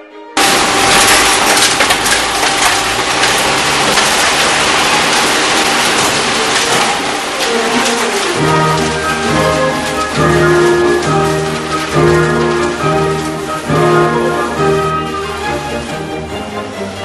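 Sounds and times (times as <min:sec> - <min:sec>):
clatter of fish and machinery: 0:00.4 - 0:17.0.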